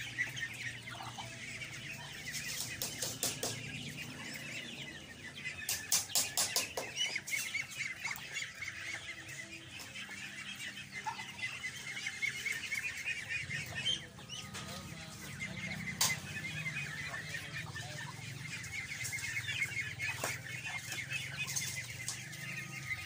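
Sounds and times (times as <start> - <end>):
ducklings peeping: 0.0 - 23.0.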